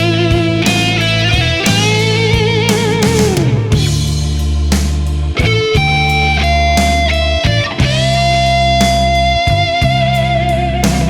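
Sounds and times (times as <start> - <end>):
rock instrumental with electric guitar: 0.0 - 11.0.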